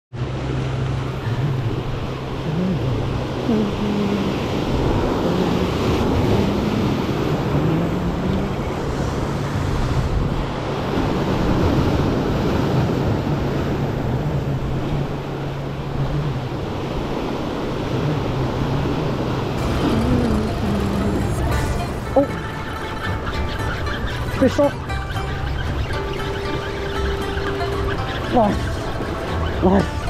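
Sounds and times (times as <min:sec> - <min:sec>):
surf washing over rocks: 0:00.2 - 0:30.0
wind buffeting microphone: 0:00.4 - 0:30.0.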